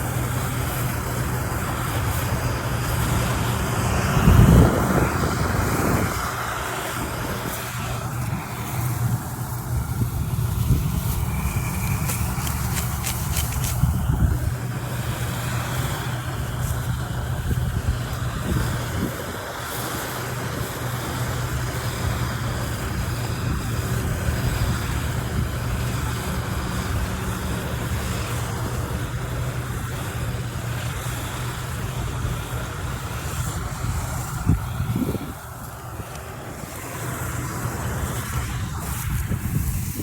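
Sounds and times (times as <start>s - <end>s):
farm machine engine running: 0.0s - 40.0s
wind noise on microphone: 0.0s - 40.0s.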